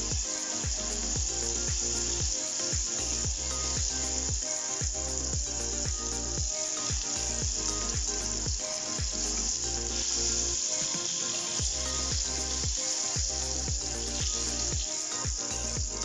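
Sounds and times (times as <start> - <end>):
butter sizzling in saucepan: 0.0 - 16.0
music with kick-drum beat: 0.0 - 16.0.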